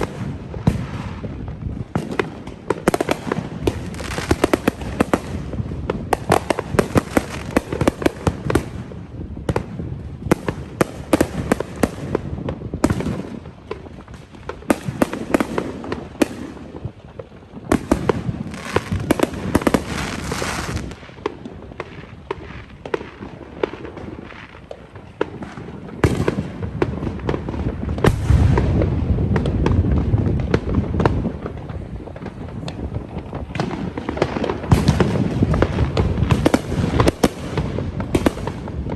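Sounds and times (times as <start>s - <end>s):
deep rumbling fireworks barrage: 0.0s - 38.9s
fireworks crackling bangs: 0.0s - 38.9s.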